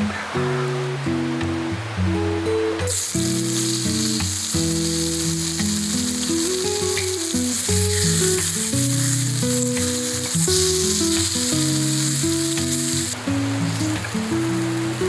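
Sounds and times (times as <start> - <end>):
guitar music: 0.0 - 15.0
food sizzling in a pan: 2.4 - 15.0.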